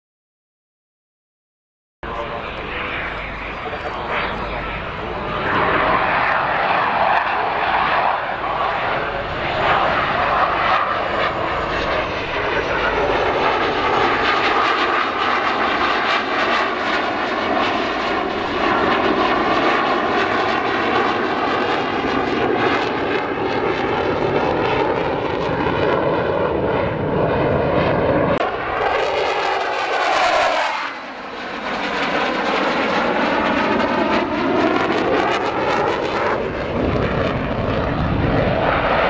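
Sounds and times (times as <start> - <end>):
jet engines roaring: 2.0 - 39.0.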